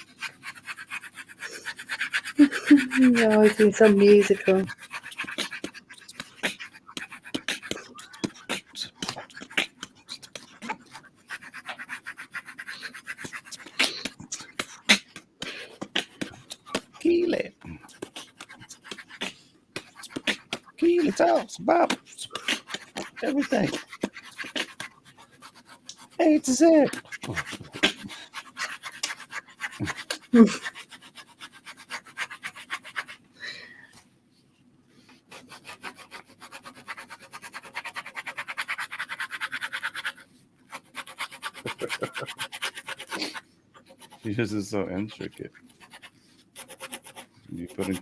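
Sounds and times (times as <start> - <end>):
pens scratching on paper: 0.0 - 33.2, 35.0 - 48.0.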